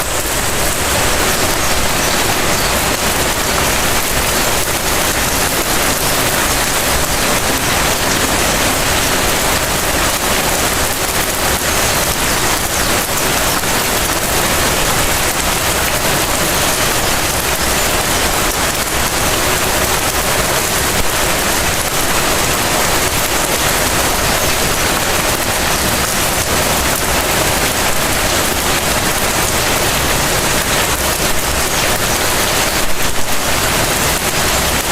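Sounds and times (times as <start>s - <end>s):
rain pattering: 0.0s - 34.9s.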